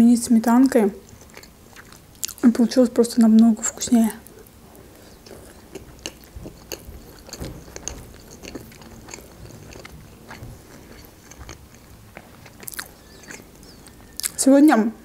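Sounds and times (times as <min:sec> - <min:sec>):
person chewing soft food: 0:01.0 - 0:14.4.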